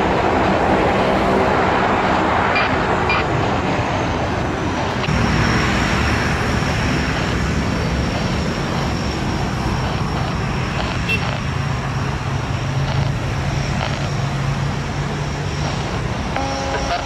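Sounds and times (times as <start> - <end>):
jet engines rushing: 0.0 - 17.0
thin high engine whine: 0.0 - 17.0.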